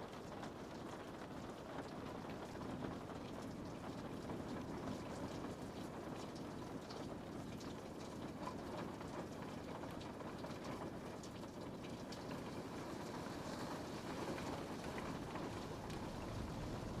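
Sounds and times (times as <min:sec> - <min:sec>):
rain pattering on a window: 0:00.0 - 0:17.0.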